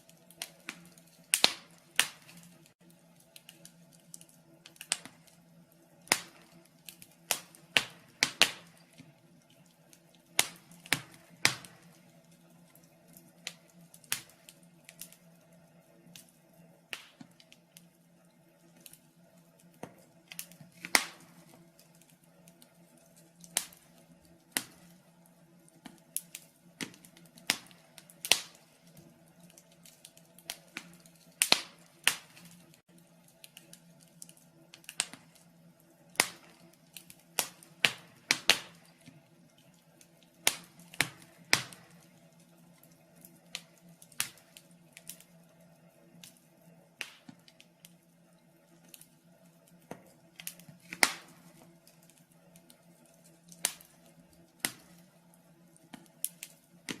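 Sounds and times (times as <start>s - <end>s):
wood fire popping and snapping: 0.0s - 57.0s.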